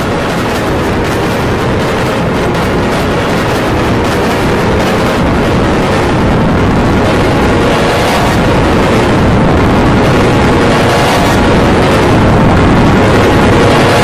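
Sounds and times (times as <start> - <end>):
distorted overlapping jingles roar: 0.0 - 14.0.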